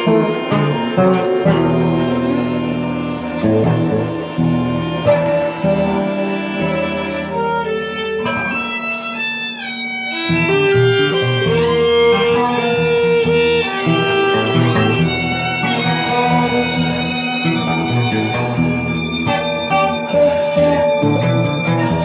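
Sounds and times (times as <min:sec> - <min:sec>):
acoustic guitar plucking and strumming: 0:00.0 - 0:22.0
violin sliding and holding notes: 0:00.0 - 0:22.0.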